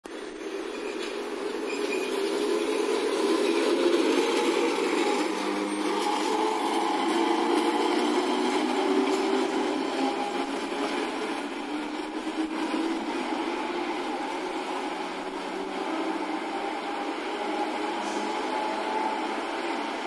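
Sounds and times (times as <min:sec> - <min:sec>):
road traffic: 0:00.0 - 0:20.0
streetcar rumble and rail noise: 0:00.0 - 0:20.0.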